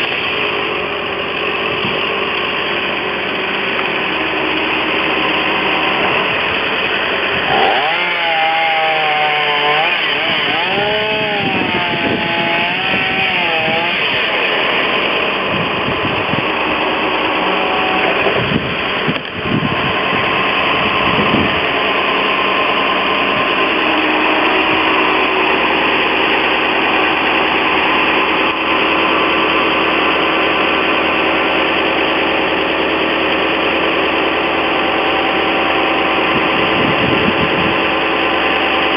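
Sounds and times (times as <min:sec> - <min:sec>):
chainsaw revving: 0:00.0 - 0:38.9
steady engine running: 0:00.0 - 0:38.9.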